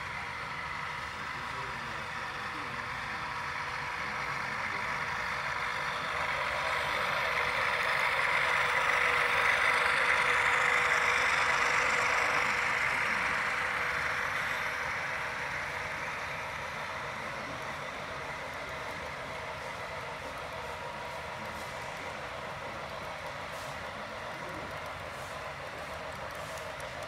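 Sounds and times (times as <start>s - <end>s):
model train running: 0.0s - 27.0s.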